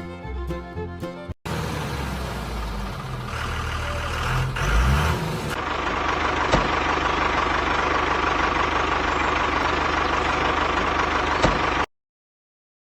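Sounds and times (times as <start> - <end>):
engine idling: 1.5 - 11.9.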